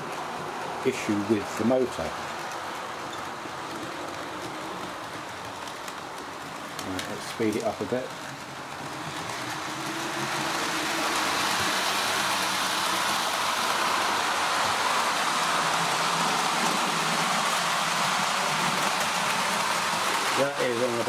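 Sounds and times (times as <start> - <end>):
model train wheels rattling: 0.8 - 21.0.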